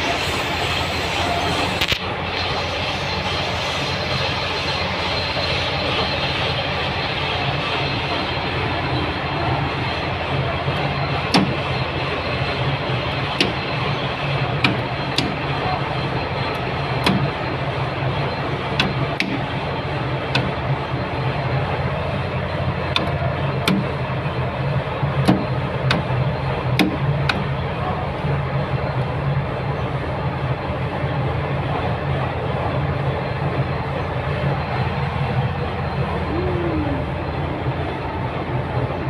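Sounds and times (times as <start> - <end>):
machinery hum: 0.0 - 39.0.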